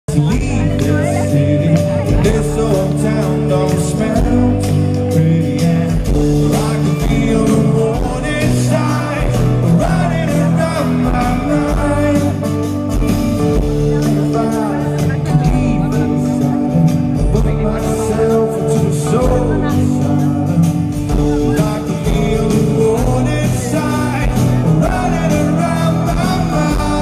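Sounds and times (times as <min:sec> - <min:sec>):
bass guitar: 0:00.0 - 0:27.0
drums: 0:00.0 - 0:27.0
man singing: 0:00.0 - 0:27.0
strummed acoustic guitar: 0:00.1 - 0:27.0.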